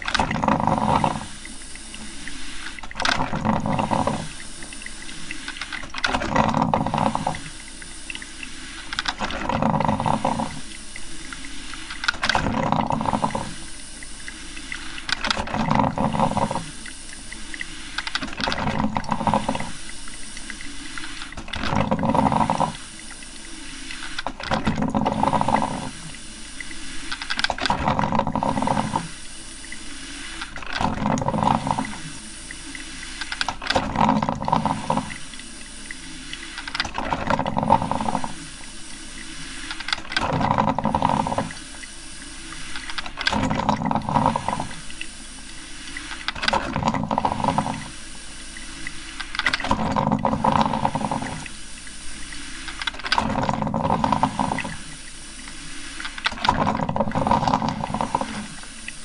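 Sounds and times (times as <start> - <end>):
coffee maker gurgling and hissing: 0.0 - 59.0.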